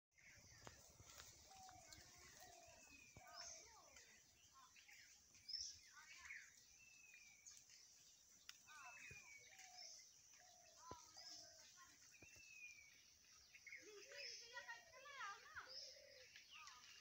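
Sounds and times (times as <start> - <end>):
birds calling and chirping: 0.1 - 17.0.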